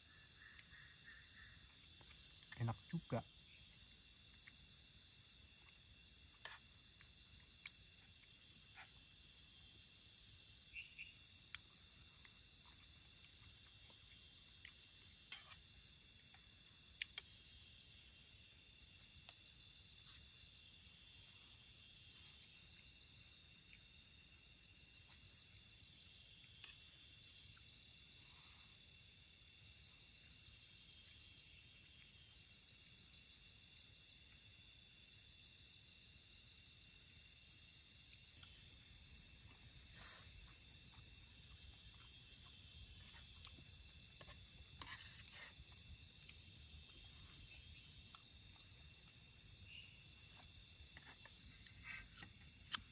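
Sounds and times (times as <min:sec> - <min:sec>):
crickets chirring: 0:00.0 - 0:52.9.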